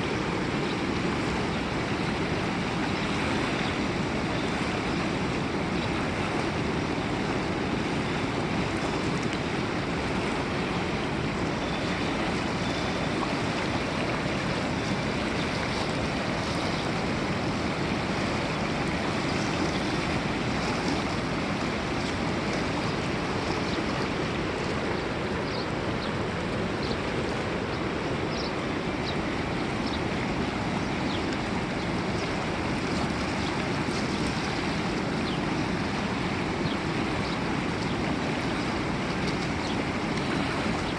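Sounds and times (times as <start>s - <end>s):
river water rushing: 0.0s - 40.9s
water splashes: 0.0s - 40.9s.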